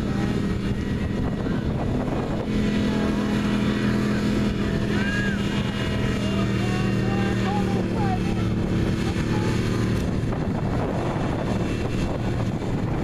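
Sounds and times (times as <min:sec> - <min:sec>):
pickup truck engine running: 0:00.0 - 0:13.0.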